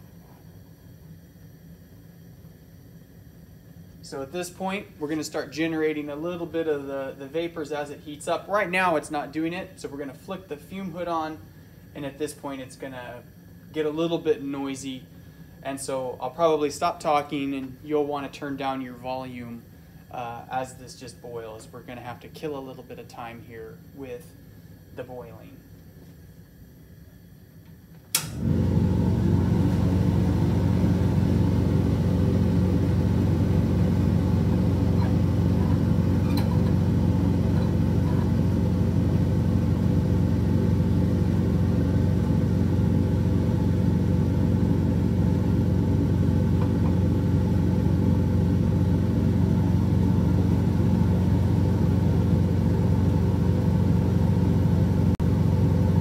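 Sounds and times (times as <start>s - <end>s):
exhaust fan rumbling: 0.0s - 56.0s.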